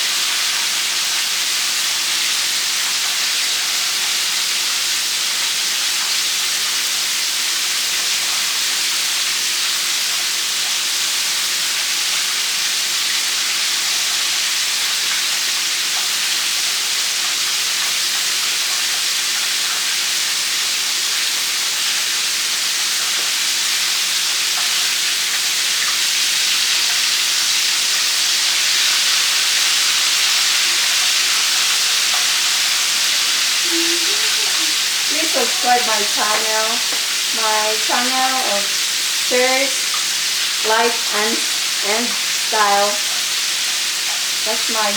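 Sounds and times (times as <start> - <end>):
chicken frying in hot oil: 0.0 - 44.9.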